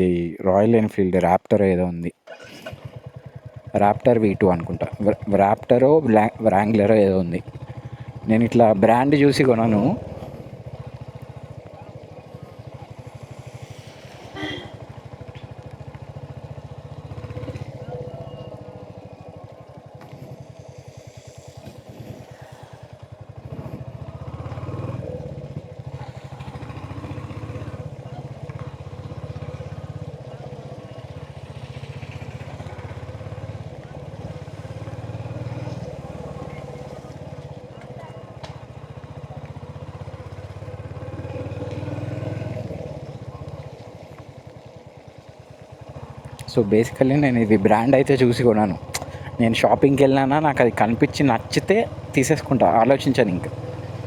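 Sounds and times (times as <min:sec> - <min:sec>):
motorcycle engine running: 0:02.3 - 0:54.0.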